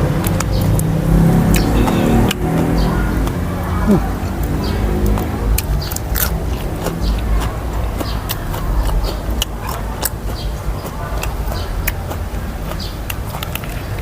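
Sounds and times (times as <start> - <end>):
chewing crunchy pickled vegetables: 0.0 - 14.0.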